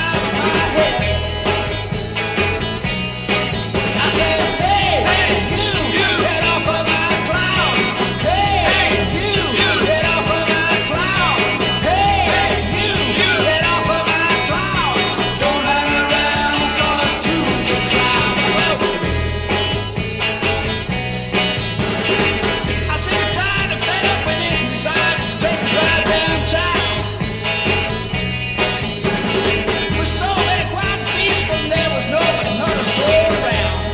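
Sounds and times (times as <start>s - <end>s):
bass guitar: 0.0s - 33.9s
drums: 0.0s - 33.9s.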